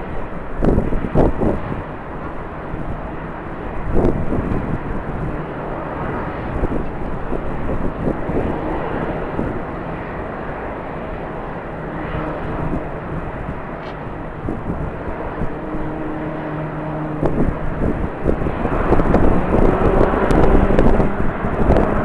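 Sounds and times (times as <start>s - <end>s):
jet engines rushing: 0.0s - 22.0s
wind buffeting microphone: 0.0s - 22.0s.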